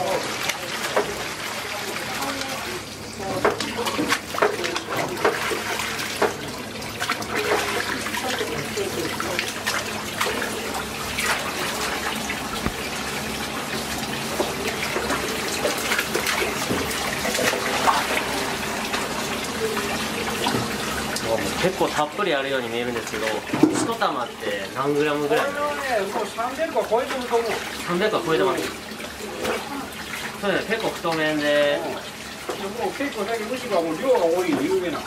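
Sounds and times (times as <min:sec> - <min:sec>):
tap water running into sink: 0:00.0 - 0:35.0
water splashing: 0:00.0 - 0:35.0.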